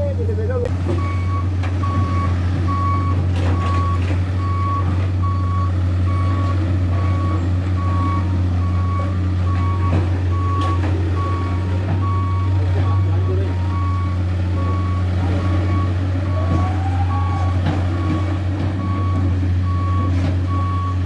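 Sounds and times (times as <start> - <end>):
diesel engine hum: 0.0 - 21.0
truck reversing alarm beeping: 0.8 - 21.0.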